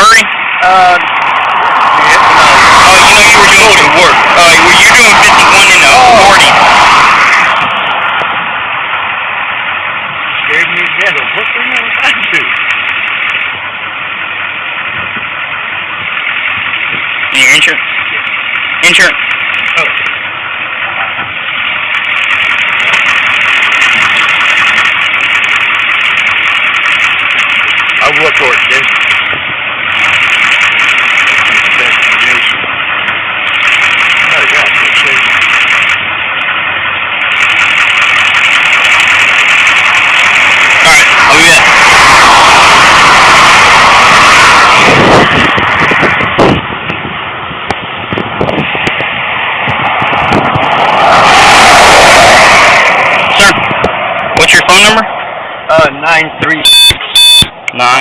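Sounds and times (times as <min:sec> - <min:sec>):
loud steady hiss: 0:00.0 - 0:57.7
car engines running: 0:00.0 - 0:58.0
road traffic passing: 0:00.0 - 0:58.0.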